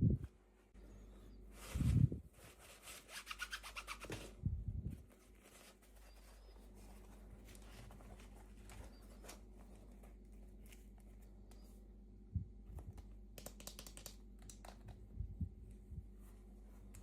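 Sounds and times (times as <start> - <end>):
low steady hum: 0.0 - 3.2, 4.2 - 17.0.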